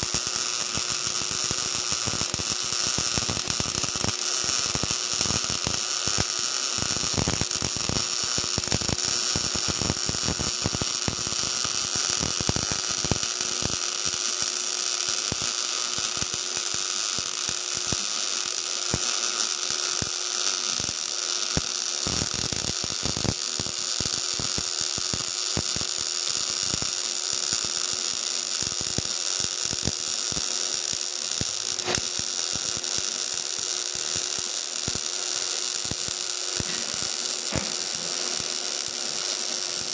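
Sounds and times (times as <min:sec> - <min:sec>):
welding arc crackling buzz: 0:00.0 - 0:39.9.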